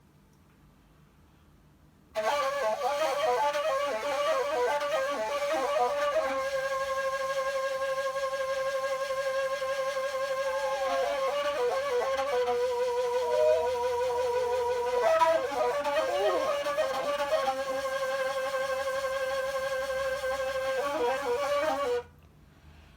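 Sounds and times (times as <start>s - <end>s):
end-blown flute solo: 2.2s - 22.1s.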